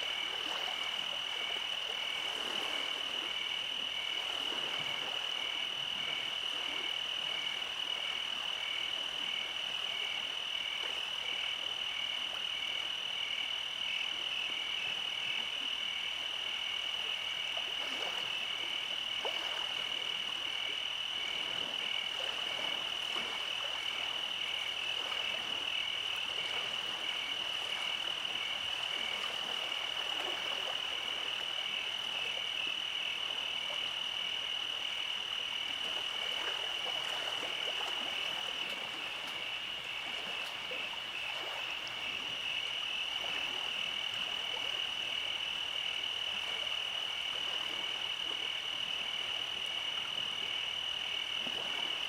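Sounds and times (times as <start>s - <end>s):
faint frog calls: 0.0s - 52.0s.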